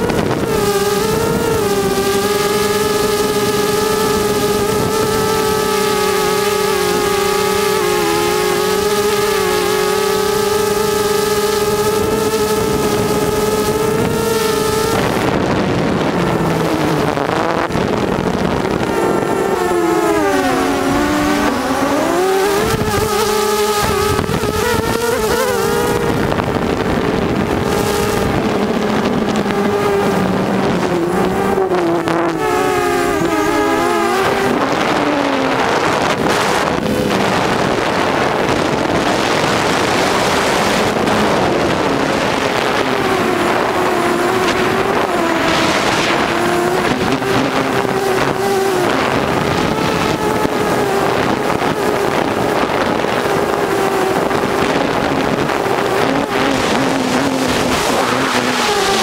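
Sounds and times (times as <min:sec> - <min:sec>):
drone propellers whining: 0:00.0 - 0:59.0.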